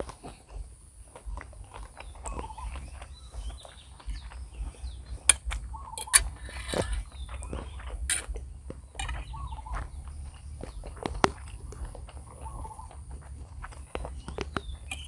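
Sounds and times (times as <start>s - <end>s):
chewing food: 0.0s - 15.0s
sharp clicks and wet smacks: 0.0s - 15.0s.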